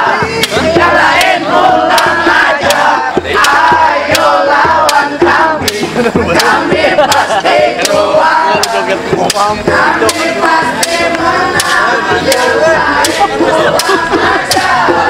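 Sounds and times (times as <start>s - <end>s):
group chanting and singing: 0.0s - 15.0s.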